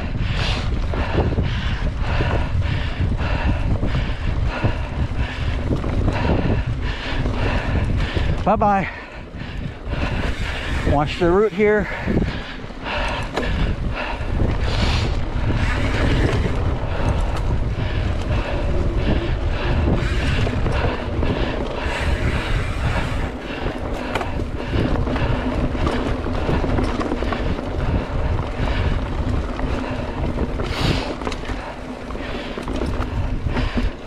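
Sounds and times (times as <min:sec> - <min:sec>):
bike rattling and knocking: 0:00.0 - 0:34.0
wind rumbling over microphone: 0:00.0 - 0:34.0.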